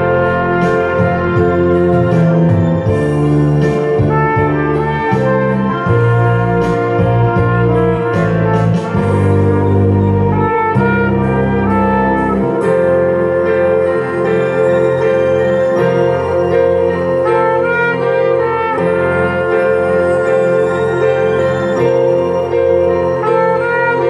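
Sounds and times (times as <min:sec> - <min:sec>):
recorded accompaniment with bass and beat: 0:00.0 - 0:24.0
trumpet playing slow melody: 0:00.0 - 0:24.0.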